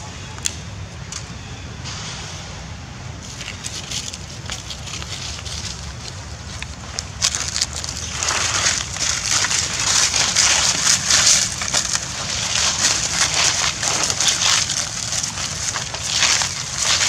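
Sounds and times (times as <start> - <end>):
footsteps crunching dry leaves: 3.2 - 17.0.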